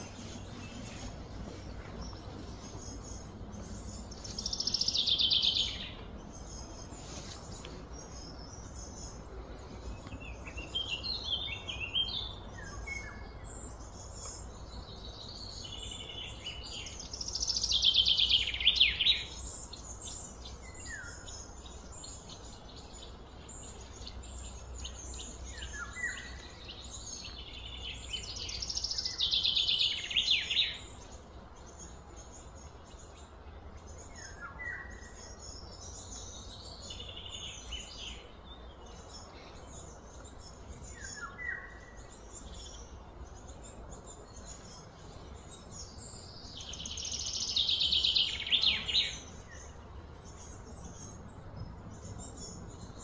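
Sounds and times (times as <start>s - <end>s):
bird chirps: 0.0s - 53.0s.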